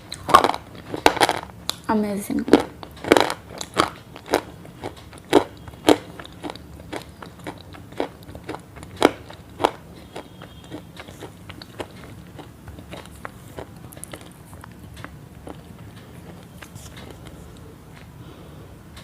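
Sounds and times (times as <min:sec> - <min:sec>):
crunching and crackling: 0:00.0 - 0:18.1.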